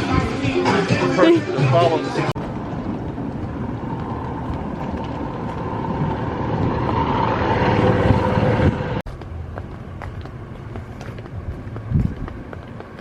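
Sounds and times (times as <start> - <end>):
vehicle running from on board: 1.8 - 13.0.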